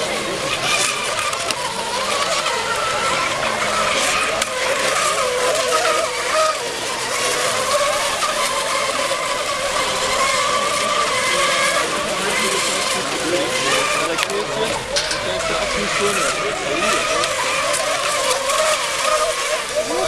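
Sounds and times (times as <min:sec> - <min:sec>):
model boat motors whining: 0:00.0 - 0:20.0.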